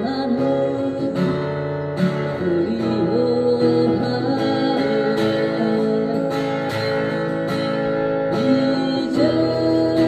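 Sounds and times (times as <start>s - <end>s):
acoustic guitar: 0.0s - 10.0s
person singing a ballad: 0.0s - 10.0s.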